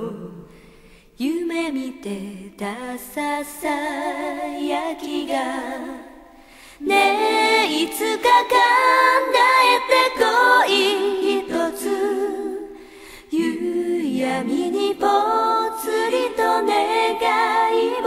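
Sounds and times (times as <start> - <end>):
voices singing in harmony: 0.0 - 18.0.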